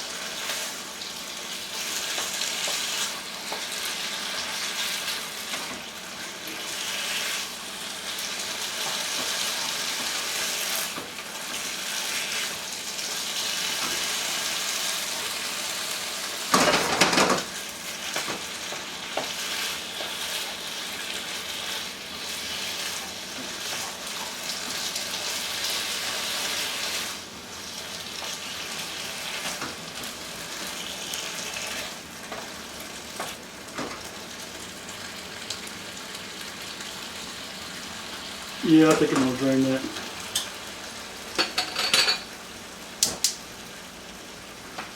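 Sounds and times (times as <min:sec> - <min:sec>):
chicken sizzling in a pan: 0:00.0 - 0:44.9.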